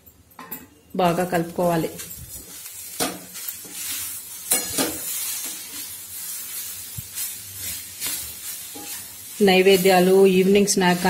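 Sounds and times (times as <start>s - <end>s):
metal spatula scraping pan: 2.0s - 11.0s.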